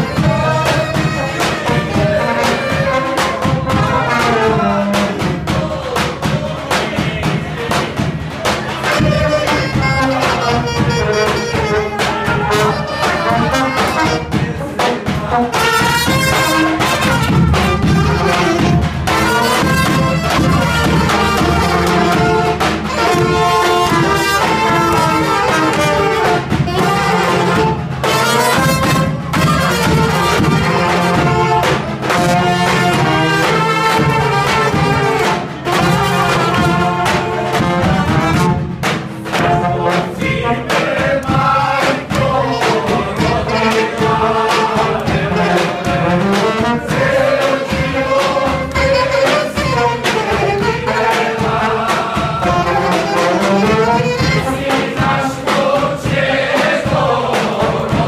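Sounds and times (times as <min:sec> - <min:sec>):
brass band music: 0:00.0 - 0:58.0
steady drum beat: 0:00.0 - 0:58.0.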